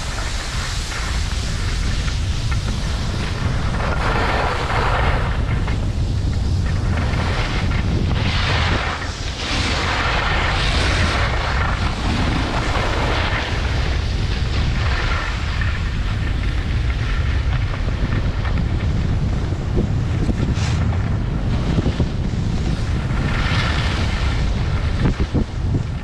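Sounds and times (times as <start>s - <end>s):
skis scraping on snow: 0.0s - 26.0s
wind buffeting microphone: 0.0s - 26.0s.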